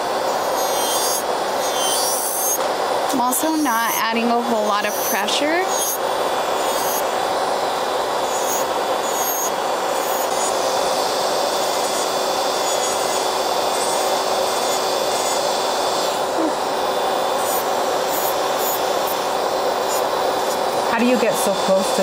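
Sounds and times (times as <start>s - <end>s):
electric nail drill whining: 0.0s - 22.0s
nail dust collector rushing: 0.0s - 22.0s.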